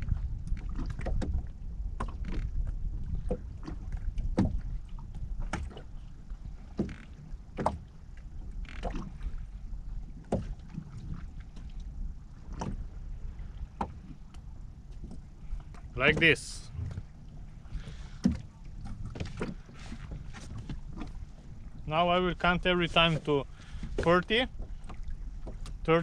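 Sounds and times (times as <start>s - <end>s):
water lapping against hull: 0.0s - 26.0s
wind rumble on microphone: 0.0s - 26.0s.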